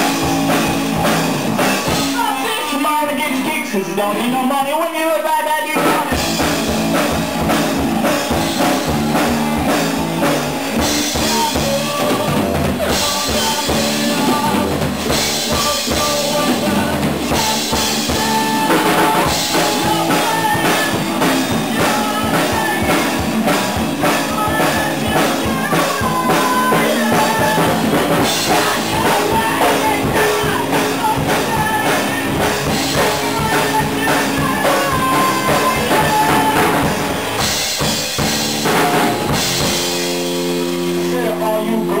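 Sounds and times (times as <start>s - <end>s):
bass drum and cymbals: 0.0s - 2.6s, 5.8s - 42.0s
live rock band: 0.0s - 42.0s.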